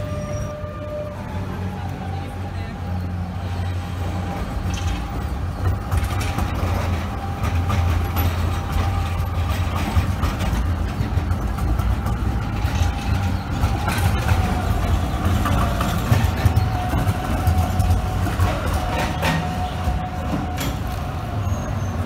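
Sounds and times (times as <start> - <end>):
tram humming: 0.0 - 22.0
tram wheels clicking on rails: 0.0 - 22.0.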